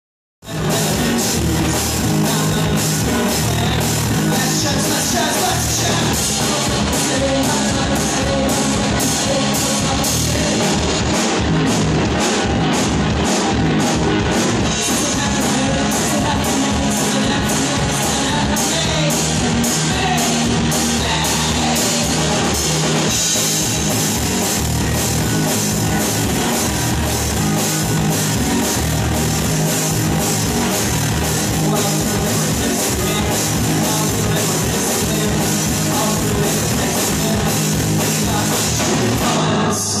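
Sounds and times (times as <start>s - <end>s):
fast drum beat: 0.4s - 39.7s
live rock band: 0.4s - 40.0s.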